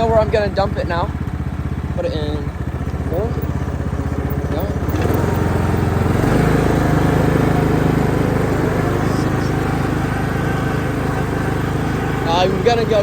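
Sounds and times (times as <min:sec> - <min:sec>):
riding lawn mower engine running: 0:00.0 - 0:13.0.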